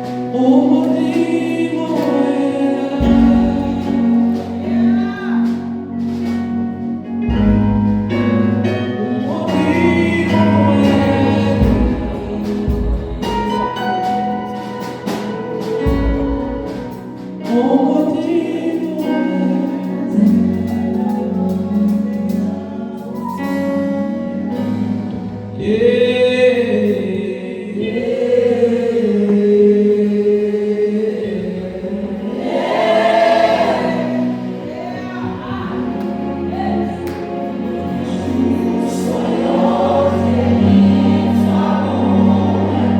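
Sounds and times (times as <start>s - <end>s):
gospel choir singing: 0.0s - 42.9s
low instrumental backing: 0.0s - 42.9s.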